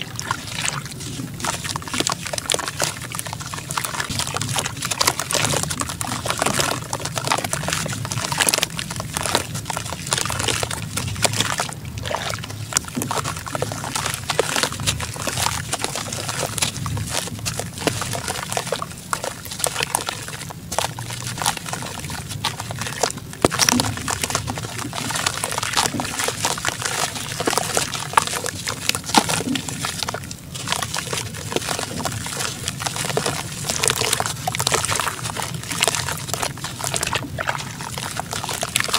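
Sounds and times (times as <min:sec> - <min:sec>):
small crackles: 0:00.0 - 0:38.9
wet sand sloshing and squelching: 0:00.0 - 0:38.9.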